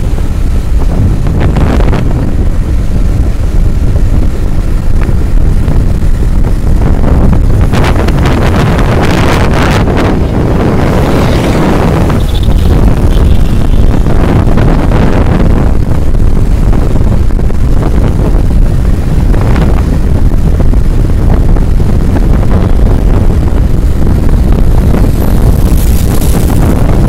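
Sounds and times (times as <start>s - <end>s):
traffic: 0.0s - 27.0s
wind buffeting microphone: 0.0s - 27.0s.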